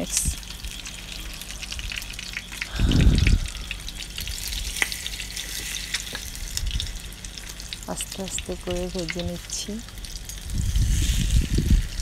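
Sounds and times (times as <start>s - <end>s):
bread frying in oil: 0.0s - 12.0s
low rumble: 0.2s - 12.0s.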